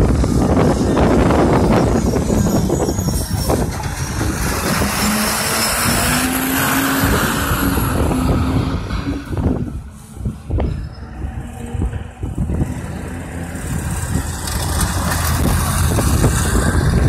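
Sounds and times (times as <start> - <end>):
garbage truck driving past: 0.0 - 17.0.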